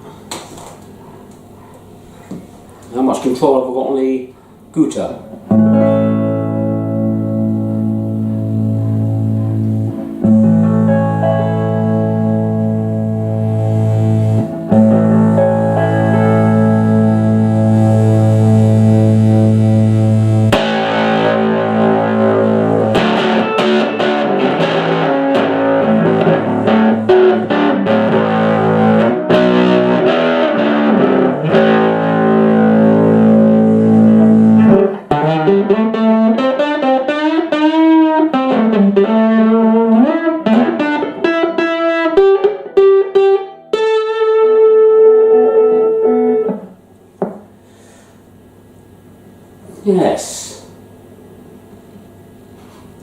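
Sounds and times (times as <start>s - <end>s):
electric guitar playing: 5.2s - 48.0s.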